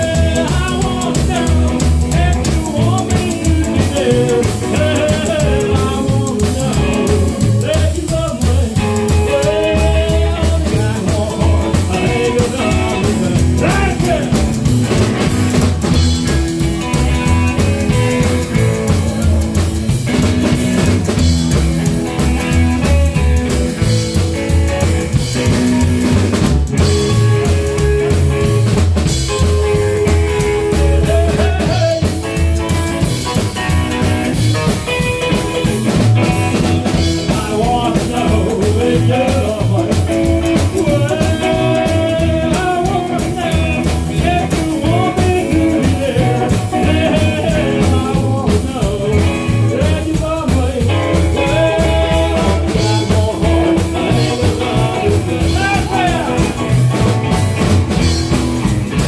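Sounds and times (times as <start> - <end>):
driving drum beat: 0.0 - 59.0
electric guitar: 0.0 - 59.0.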